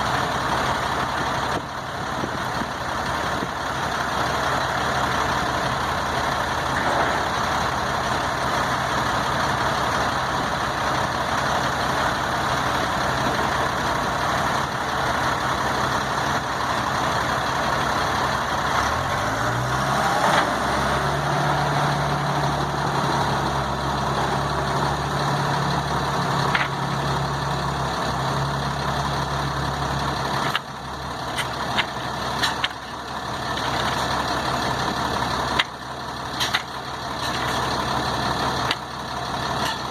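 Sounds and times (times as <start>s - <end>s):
diesel truck engine: 0.0s - 39.9s.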